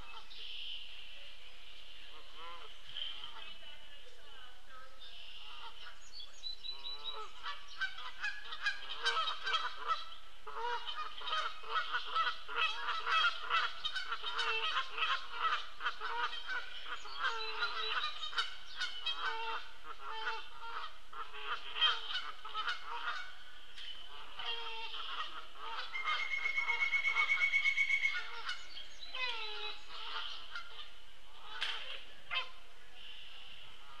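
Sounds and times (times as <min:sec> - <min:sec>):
wild birds calling: 0:04.9 - 0:34.0.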